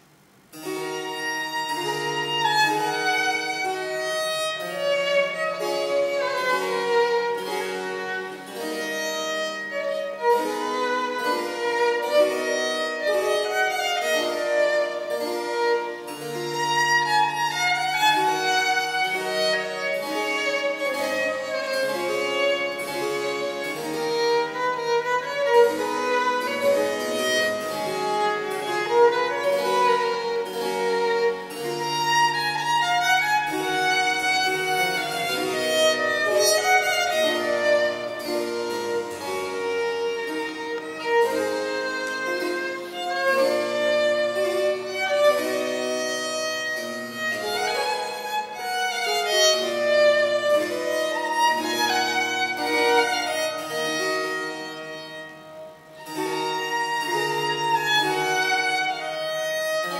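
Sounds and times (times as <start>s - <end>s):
harpsichord accompaniment: 0.0s - 59.9s
violin melody: 0.0s - 59.9s.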